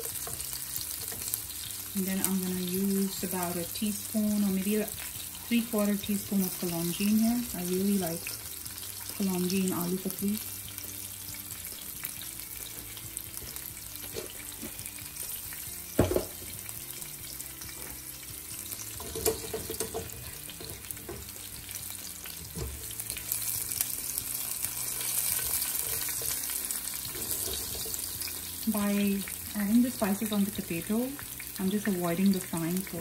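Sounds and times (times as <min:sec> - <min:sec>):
seeds sizzling in hot oil: 0:00.0 - 0:33.0.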